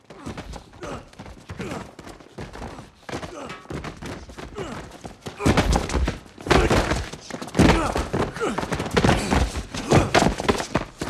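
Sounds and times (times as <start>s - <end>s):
fight cracks and thuds: 0.1s - 11.0s.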